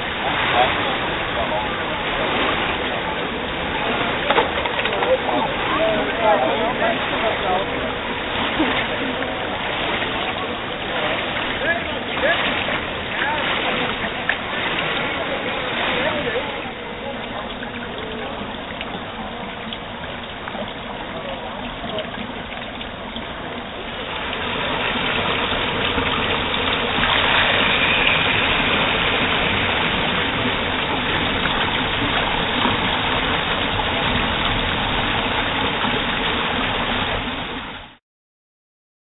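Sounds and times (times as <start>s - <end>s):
water rushing and splashing: 0.0s - 38.0s.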